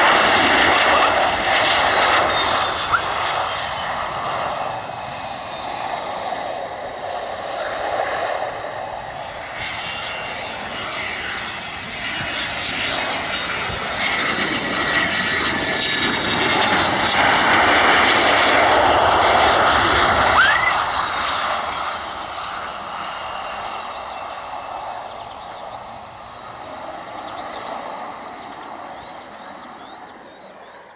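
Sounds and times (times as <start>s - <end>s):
fighter jet passing with whine: 0.0s - 30.9s.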